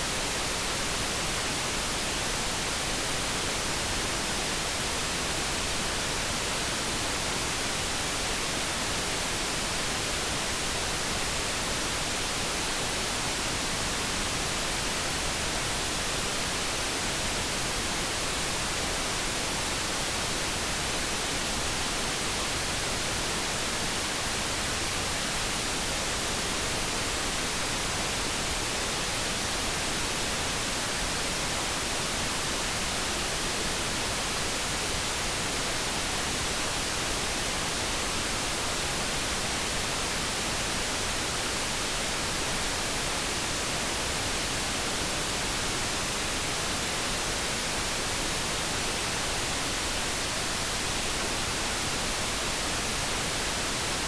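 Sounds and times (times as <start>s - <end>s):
steady hissing noise: 0.0s - 54.0s.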